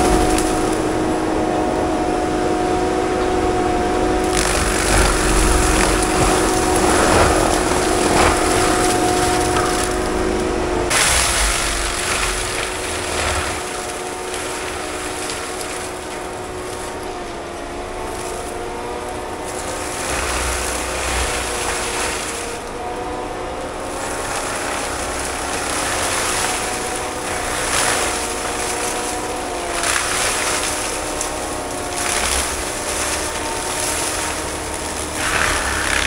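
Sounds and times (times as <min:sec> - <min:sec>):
mulching machine whining: 0:00.0 - 0:36.0.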